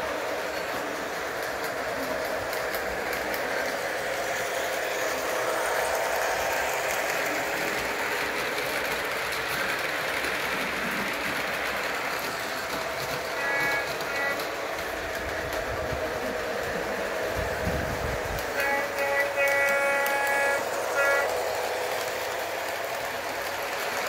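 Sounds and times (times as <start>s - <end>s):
model train rolling rumble: 0.0s - 24.0s.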